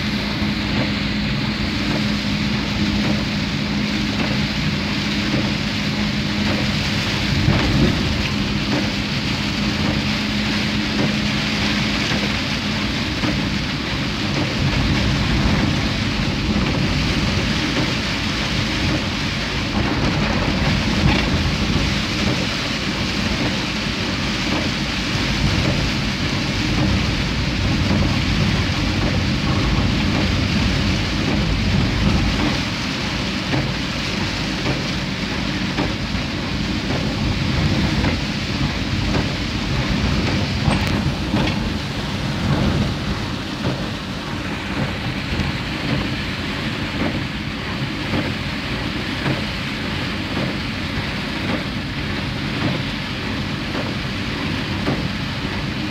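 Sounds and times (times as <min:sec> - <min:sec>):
heavy rain drumming on car roof: 0:00.0 - 0:55.9
low rumble of moving car: 0:00.0 - 0:55.9.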